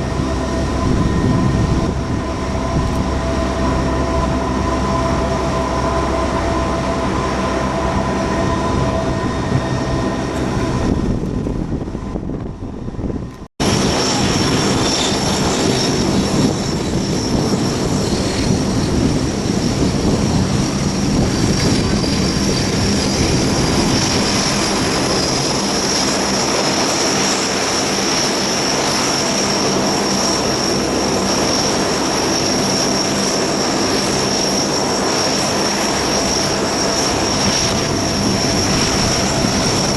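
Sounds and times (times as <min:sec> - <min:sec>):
turbine whine: 0:00.0 - 0:39.9
turboprop engines running: 0:00.0 - 0:39.9.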